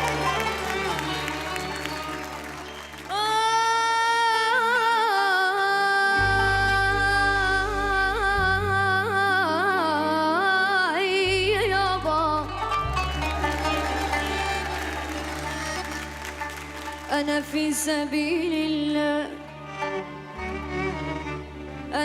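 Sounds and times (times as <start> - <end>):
low instrumental accompaniment: 0.0 - 3.6, 6.1 - 22.0.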